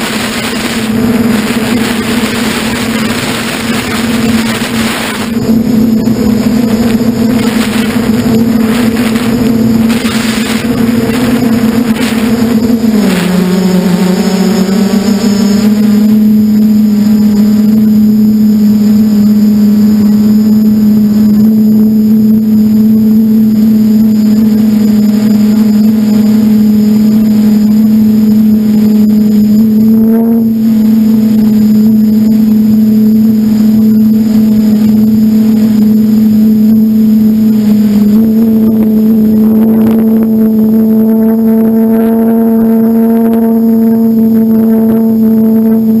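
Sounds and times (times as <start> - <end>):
electric motors and propellers humming: 0.0 - 46.0.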